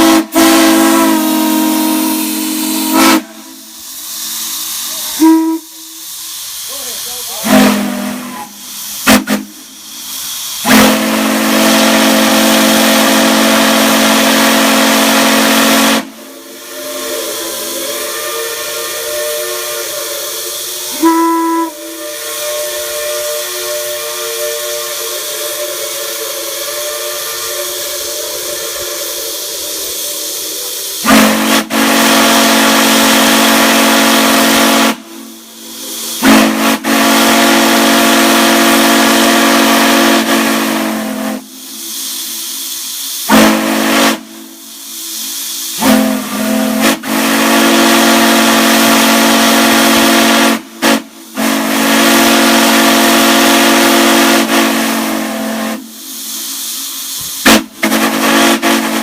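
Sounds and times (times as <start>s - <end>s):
chime steam whistle blasts: 0.0s - 59.0s
steam hissing: 0.0s - 59.0s.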